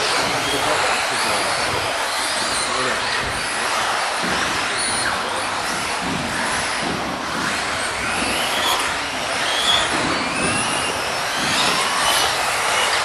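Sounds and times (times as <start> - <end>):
electric motors whining: 0.0 - 13.0
tyre and hall noise: 0.0 - 13.0.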